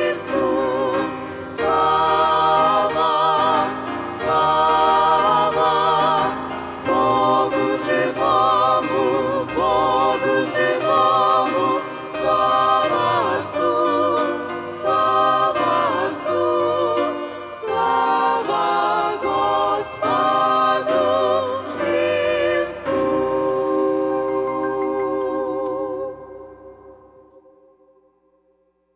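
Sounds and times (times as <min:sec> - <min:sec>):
group singing a hymn in harmony: 0:00.0 - 0:27.2.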